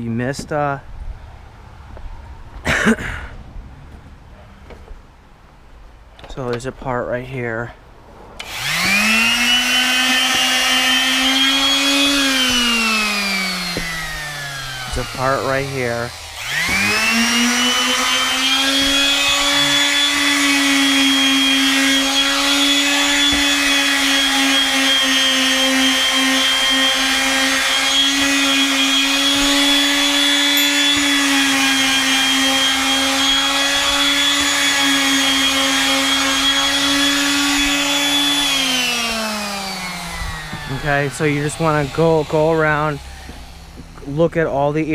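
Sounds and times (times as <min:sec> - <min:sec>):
palm sander whining: 0:08.2 - 0:44.9.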